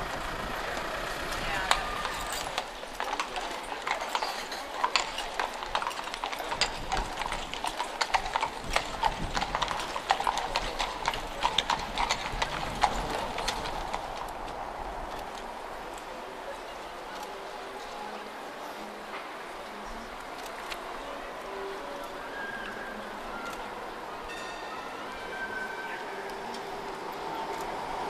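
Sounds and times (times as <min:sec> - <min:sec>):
horse hooves on cobblestones: 0:00.0 - 0:28.0
low street murmur: 0:00.0 - 0:28.0.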